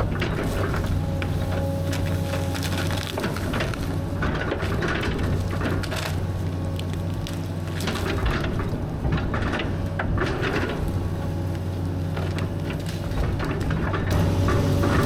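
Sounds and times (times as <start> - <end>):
excavator diesel engine running: 0.0 - 15.0
wood and brush cracking: 0.0 - 15.0.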